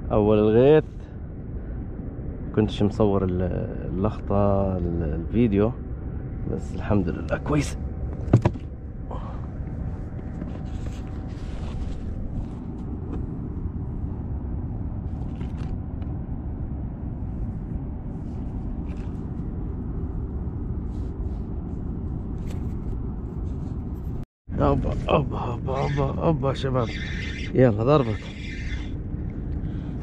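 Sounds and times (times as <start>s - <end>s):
wind buffeting camera microphone: 0.0s - 30.0s.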